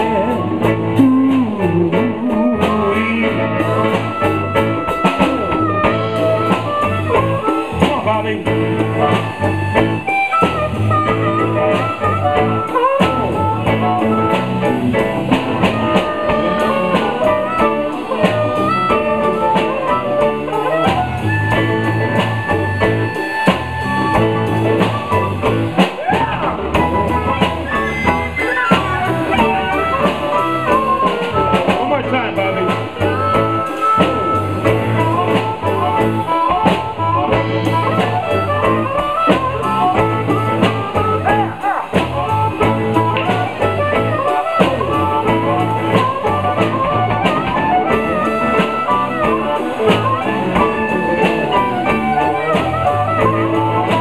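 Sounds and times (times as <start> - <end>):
bass guitar: 0.0 - 54.0
bending lead melody: 0.0 - 54.0
blues band playing: 0.0 - 54.0
drum kit: 0.0 - 54.0.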